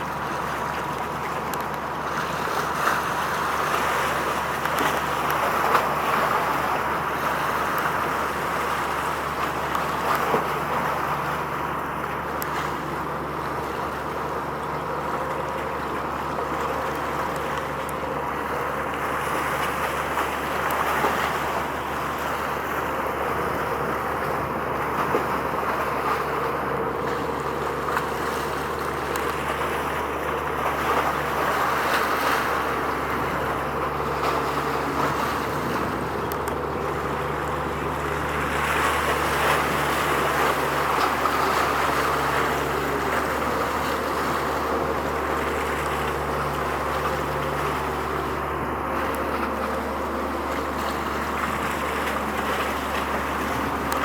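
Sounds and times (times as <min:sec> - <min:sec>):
boat engine drone: 0:00.0 - 0:54.0
wind and water noise: 0:00.0 - 0:54.0.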